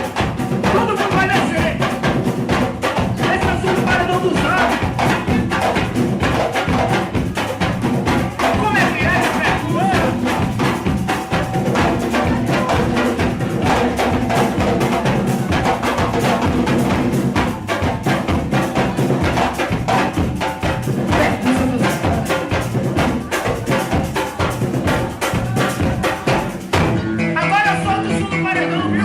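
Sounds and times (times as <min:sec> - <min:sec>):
loud music with fast percussion: 0:00.0 - 0:29.0.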